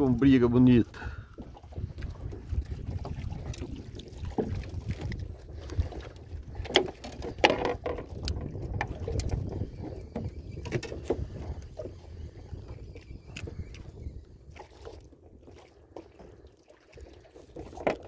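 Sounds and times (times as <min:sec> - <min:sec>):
wind on microphone: 0:00.0 - 0:16.4
water slapping boat hull: 0:00.0 - 0:18.0
knocks and thumps on hull: 0:01.3 - 0:12.4, 0:14.5 - 0:18.0.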